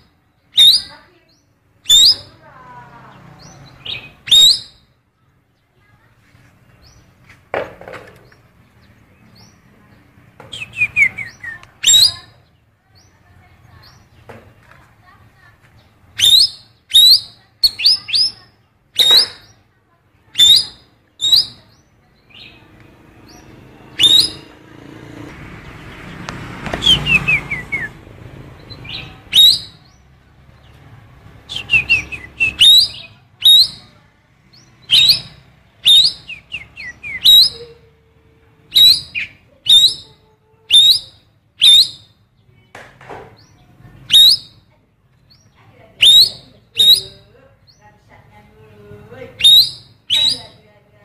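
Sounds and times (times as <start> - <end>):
songbird chirping: 0.0 - 51.0.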